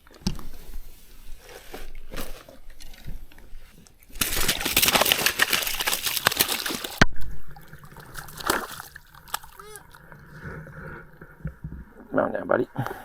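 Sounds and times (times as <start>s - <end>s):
fish splashing and thrashing in water: 0.2s - 11.9s.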